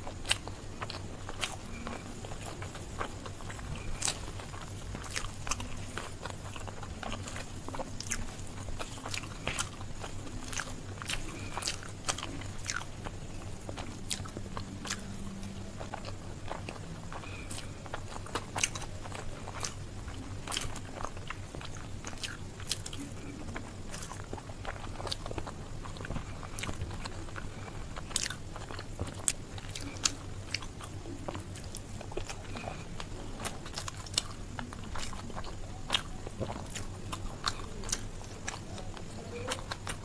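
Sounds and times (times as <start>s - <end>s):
wet chewing: 0.0s - 40.0s.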